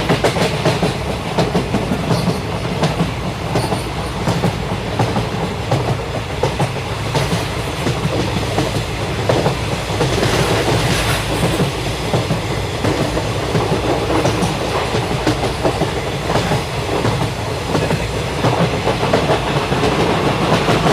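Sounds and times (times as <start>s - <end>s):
clickety-clack over rail joints: 0.0s - 20.9s
train wheels rumbling on rails: 0.0s - 20.9s.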